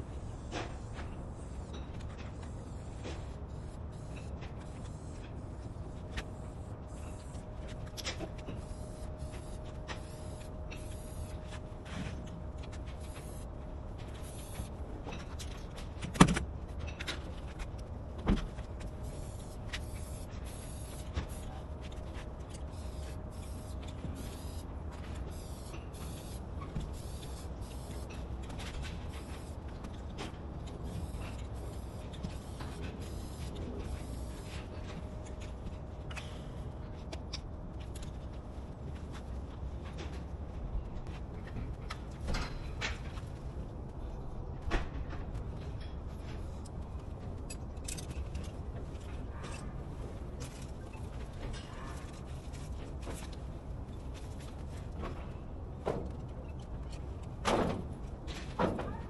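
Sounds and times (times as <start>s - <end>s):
faint hum: 0.0s - 57.3s.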